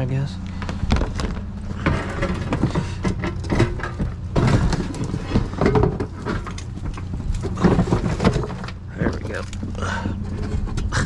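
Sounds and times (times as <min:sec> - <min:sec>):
low rumble: 0:00.0 - 0:11.0
junk clattering in metal dumpster: 0:00.8 - 0:11.0.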